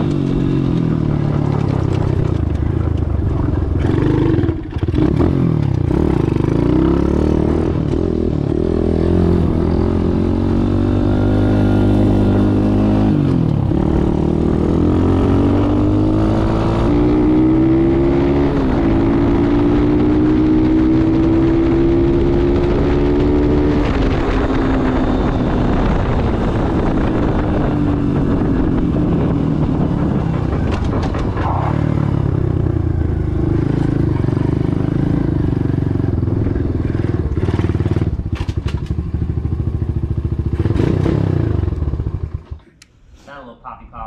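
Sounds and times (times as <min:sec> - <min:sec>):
pit bike engine revving: 0:00.0 - 0:38.5, 0:39.3 - 0:42.9.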